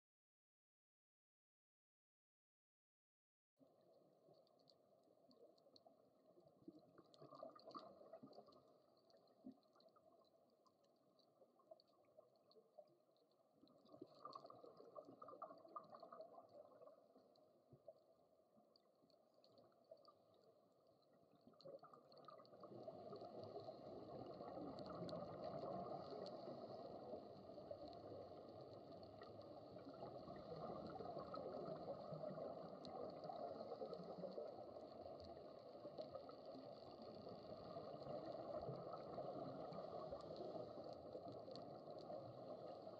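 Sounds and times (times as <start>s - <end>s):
muffled underwater wash: 3.6s - 42.9s.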